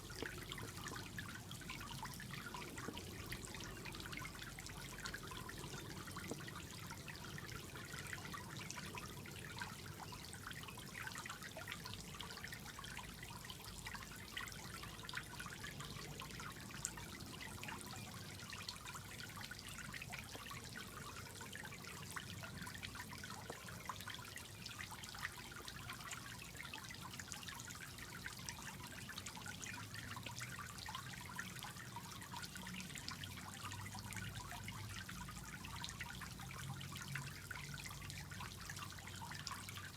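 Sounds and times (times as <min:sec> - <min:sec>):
small water drips: 0:00.0 - 0:39.9
water trickling into pool: 0:00.0 - 0:39.9.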